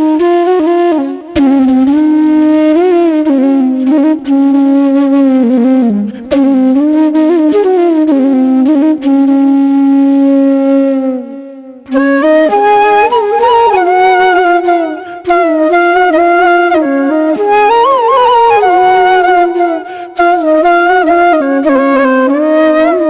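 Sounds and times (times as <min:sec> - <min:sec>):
solo flute melody: 0:00.0 - 0:23.0.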